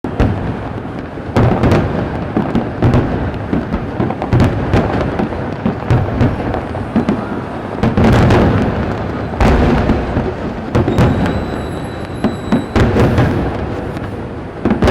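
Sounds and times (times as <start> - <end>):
fireworks bangs and cracks: 0.0 - 14.9
deep rumbling booms: 1.5 - 14.1.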